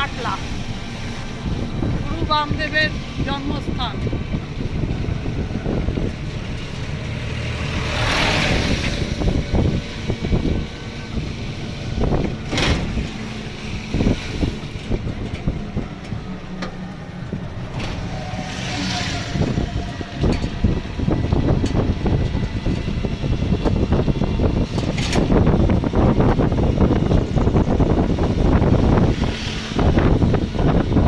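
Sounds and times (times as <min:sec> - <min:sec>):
rushing swells: 0:00.0 - 0:31.0
vehicle engine and road rumble: 0:00.0 - 0:31.0.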